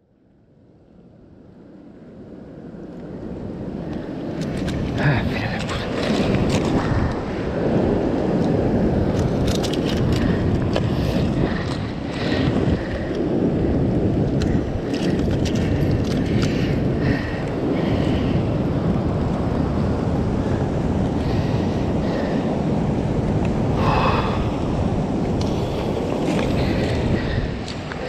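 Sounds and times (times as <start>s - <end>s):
wind buffeting microphone: 1.5s - 28.0s
surf on rocks: 3.9s - 28.0s.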